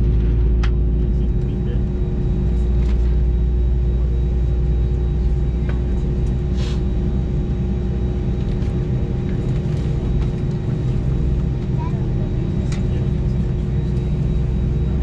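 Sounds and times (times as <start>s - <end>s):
aircraft cabin rumble and hum: 0.0s - 15.0s.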